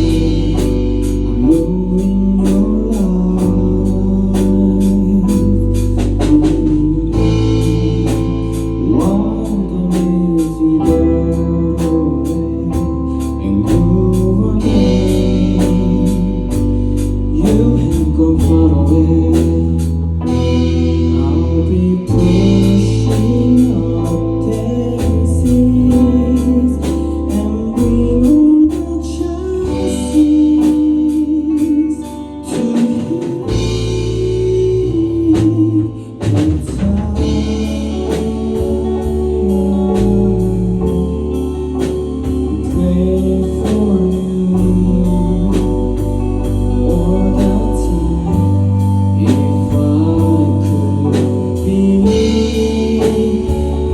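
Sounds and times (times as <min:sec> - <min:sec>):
bass: 0:00.0 - 0:53.9
drum kit beat: 0:00.0 - 0:53.9
person singing: 0:00.0 - 0:53.9.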